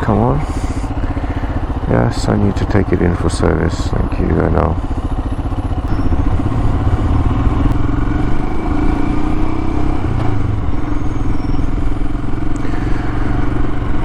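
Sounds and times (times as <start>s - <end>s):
motorcycle engine running: 0.0s - 14.0s
road rumble: 0.0s - 14.0s.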